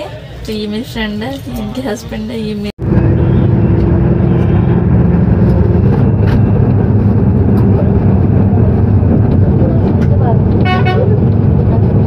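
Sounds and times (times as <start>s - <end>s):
road rumble and engine noise: 0.0s - 12.0s.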